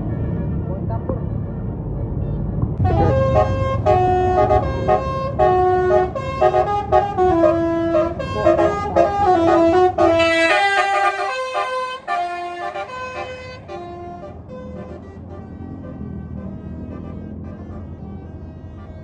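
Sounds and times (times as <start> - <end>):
bus engine rumble: 0.0 - 19.0
bus horn playing a tune: 2.8 - 19.0.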